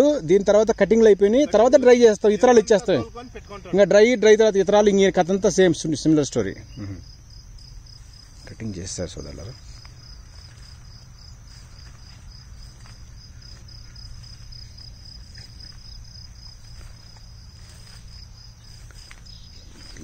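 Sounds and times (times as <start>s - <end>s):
insect chirping: 0.0s - 20.0s
low steady rumble: 0.1s - 20.0s.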